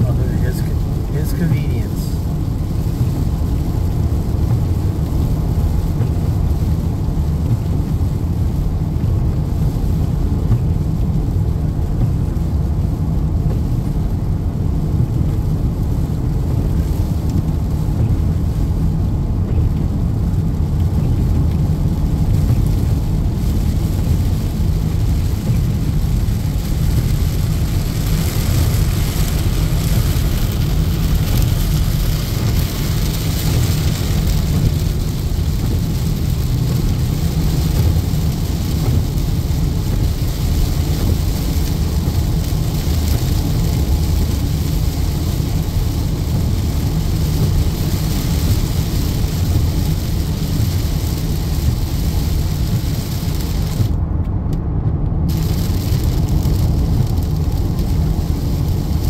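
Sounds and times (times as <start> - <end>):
car road and engine rumble: 0.0 - 59.0
rain hissing on windshield: 0.0 - 59.0.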